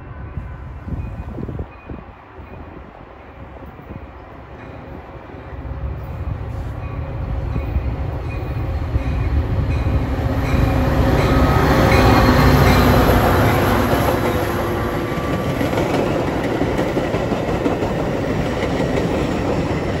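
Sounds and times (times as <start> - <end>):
diesel locomotive engine: 0.0 - 20.0.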